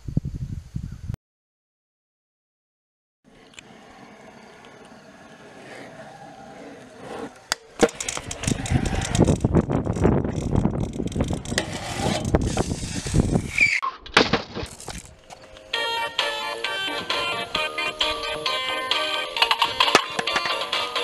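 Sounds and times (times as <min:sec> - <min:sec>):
outdoor hush: 0:03.2 - 0:21.0
scooter wheels rolling on concrete: 0:03.3 - 0:13.8, 0:14.6 - 0:21.0.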